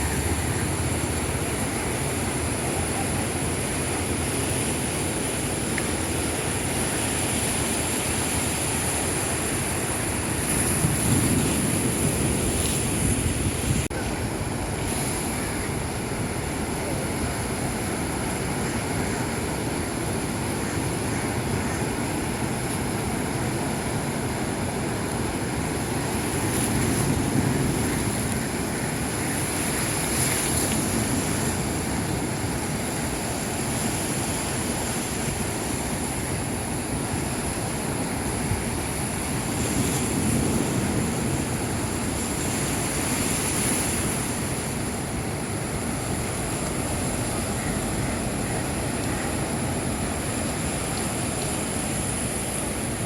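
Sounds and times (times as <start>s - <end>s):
sea waves washing in: 0.0s - 53.0s.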